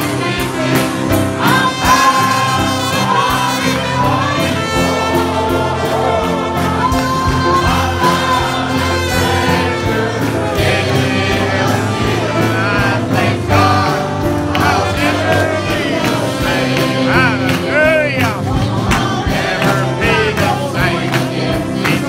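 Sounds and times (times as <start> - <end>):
instrumental accompaniment: 0.0 - 22.0
men singing a hymn: 0.0 - 22.0.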